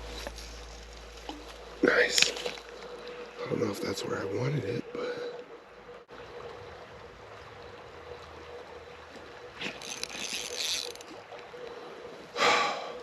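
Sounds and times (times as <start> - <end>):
stream water running: 0.0 - 13.0.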